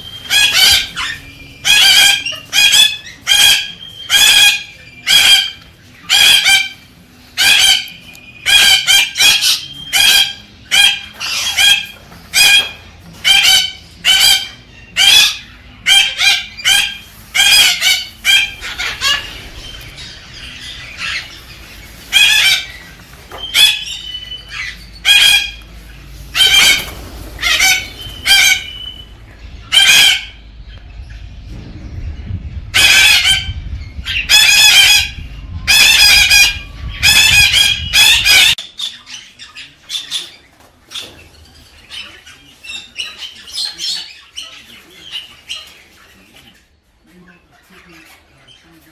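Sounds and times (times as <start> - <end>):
cockatoo screeching calls: 0.0 - 30.5, 32.7 - 46.6.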